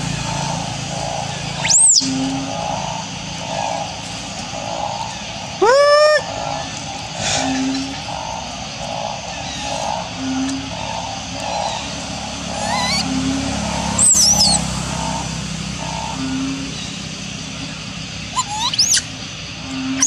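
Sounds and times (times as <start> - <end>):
monkeys squealing: 0.0 - 19.2
low background drone: 0.0 - 20.0.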